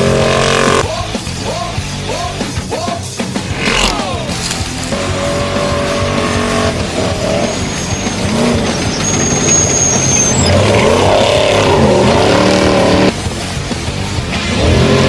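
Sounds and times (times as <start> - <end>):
race truck engine under throttle: 0.0 - 0.9, 3.2 - 15.0.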